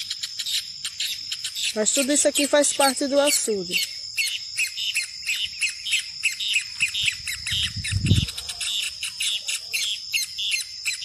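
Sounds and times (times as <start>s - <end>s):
high insect drone: 0.0s - 11.0s
small birds chirping: 0.0s - 11.0s.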